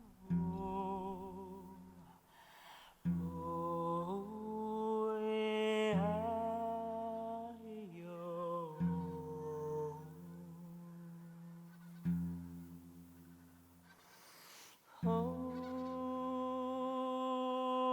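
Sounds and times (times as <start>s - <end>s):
voices singing a lullaby: 0.0s - 2.2s, 3.0s - 12.1s, 14.3s - 17.9s.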